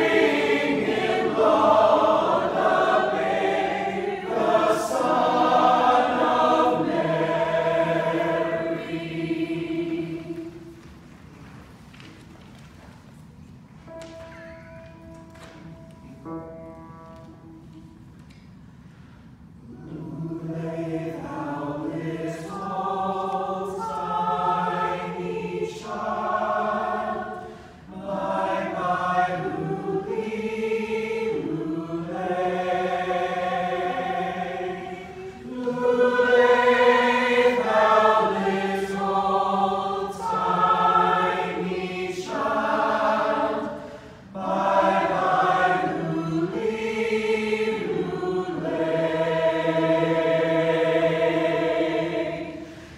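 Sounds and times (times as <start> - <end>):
mixed choir singing: 0.0 - 10.8, 19.6 - 52.9.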